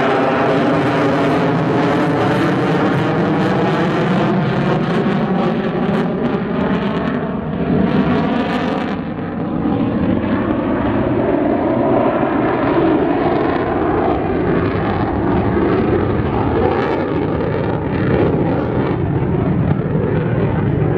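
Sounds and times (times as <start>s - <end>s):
jet engines in afterburner: 0.0s - 20.9s.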